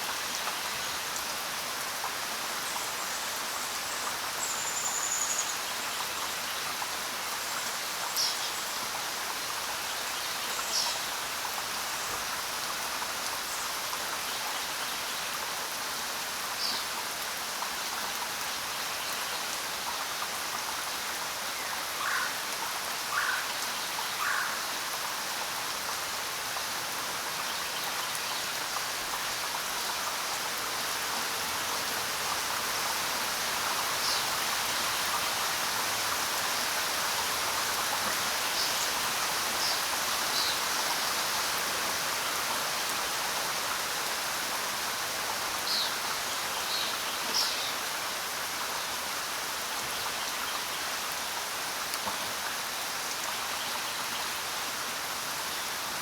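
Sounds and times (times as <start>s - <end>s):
rain falling on ground: 0.0s - 56.0s.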